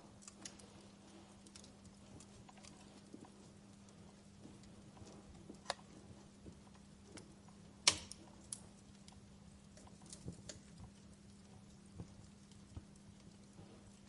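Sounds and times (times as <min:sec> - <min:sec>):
faint steady hum: 0:00.0 - 0:14.0
wood fire crackling: 0:00.0 - 0:14.0.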